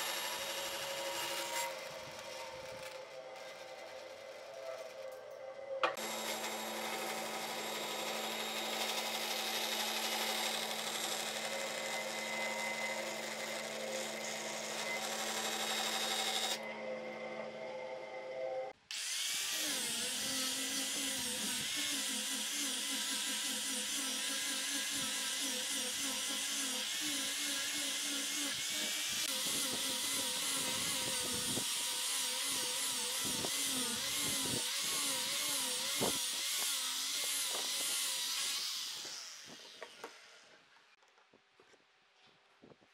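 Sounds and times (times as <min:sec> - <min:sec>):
bandsaw cutting wood: 0:00.0 - 0:04.8, 0:05.9 - 0:16.6, 0:18.9 - 0:40.6
angle grinder sanding wood: 0:00.0 - 0:05.0, 0:05.9 - 0:16.6, 0:18.9 - 0:40.4.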